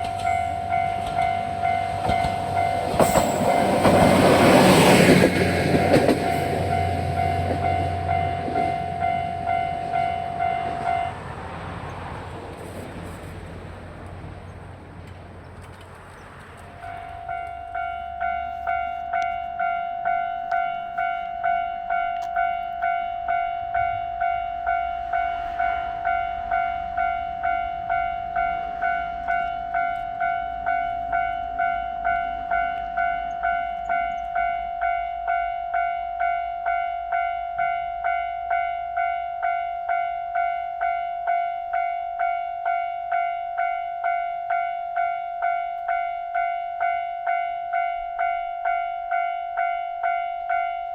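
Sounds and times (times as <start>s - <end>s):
railroad crossing warning bell: 0.0s - 13.3s, 15.5s - 50.9s
passing train rumble: 0.0s - 50.9s.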